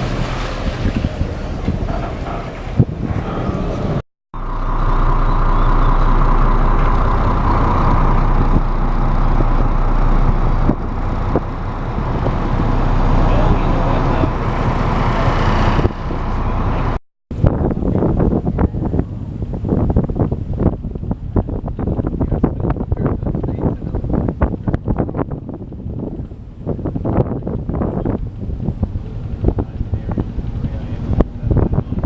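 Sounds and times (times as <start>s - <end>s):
ferry engines rumbling: 0.0s - 32.0s.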